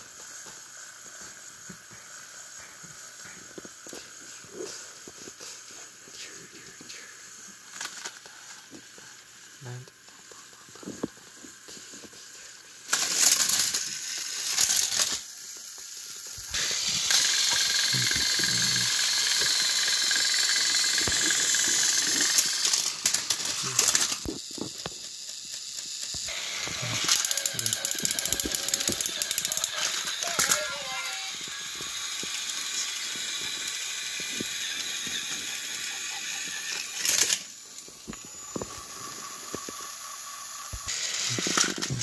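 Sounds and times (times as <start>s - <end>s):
toy train clicking and rattling: 0.0s - 42.0s
whirring motors and gears: 0.0s - 42.0s.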